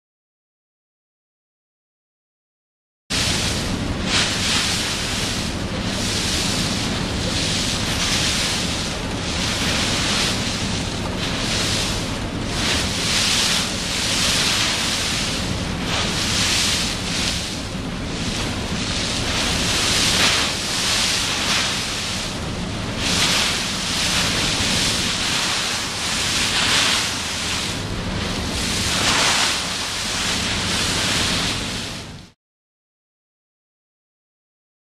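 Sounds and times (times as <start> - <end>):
low engine rumble: 3.1 - 32.2
wind on microphone: 3.1 - 32.2
bow wave splashing against hull: 3.1 - 32.4.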